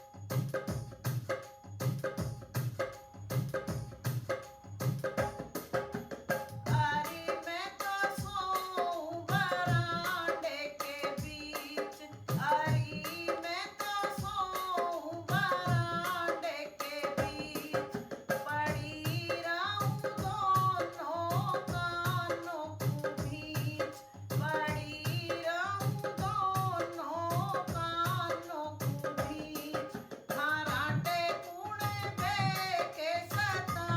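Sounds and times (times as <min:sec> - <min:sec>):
hand drum beat: 0:00.0 - 0:33.9.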